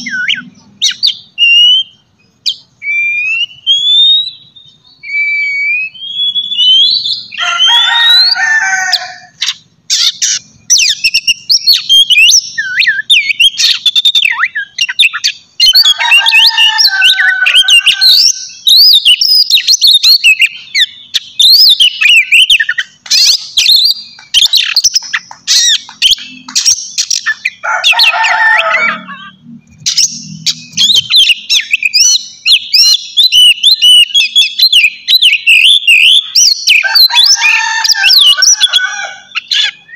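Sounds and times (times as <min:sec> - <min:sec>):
bird song whistles and chirps: 0:00.0 - 0:39.9.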